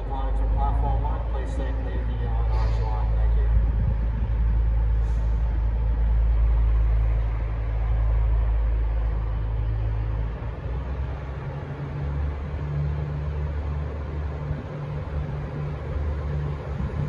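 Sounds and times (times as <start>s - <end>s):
diesel train engine rumble: 0.0s - 17.0s.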